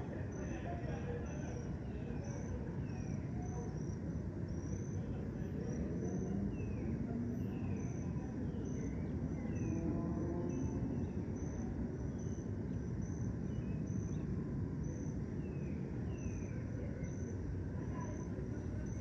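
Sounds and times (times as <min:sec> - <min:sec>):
crickets chirping: 0:00.0 - 0:19.0
distant city traffic rumble: 0:00.0 - 0:19.0.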